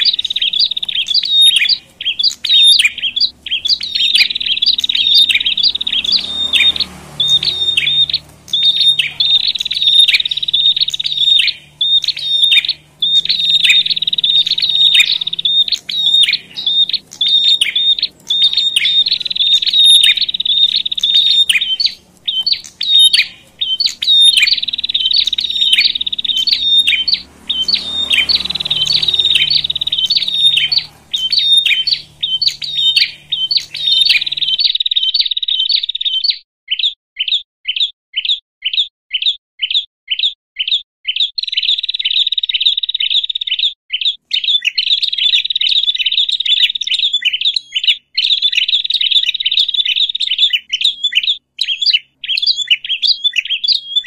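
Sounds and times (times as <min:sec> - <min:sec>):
small birds chipping: 0:00.0 - 0:54.0.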